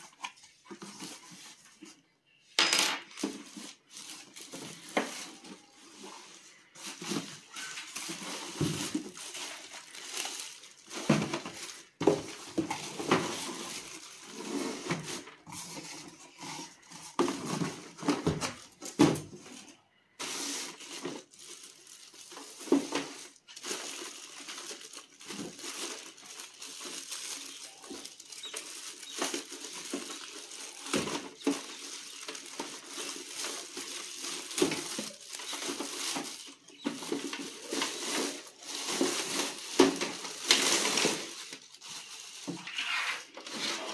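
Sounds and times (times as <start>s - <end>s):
plastic wrap crinkling: 3.1s - 43.9s.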